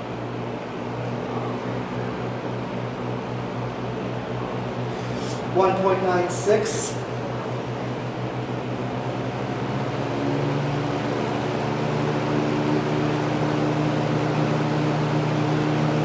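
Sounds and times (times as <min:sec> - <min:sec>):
box fan running: 0:00.0 - 0:16.0.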